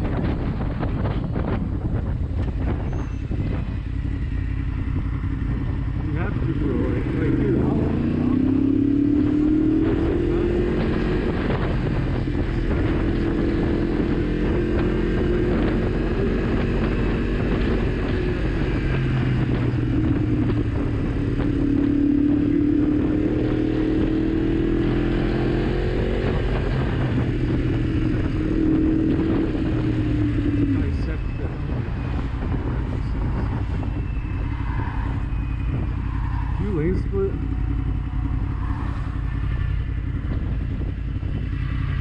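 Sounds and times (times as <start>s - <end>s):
motorcycle engine revving: 0.0s - 42.0s
wind noise on microphone: 0.0s - 42.0s.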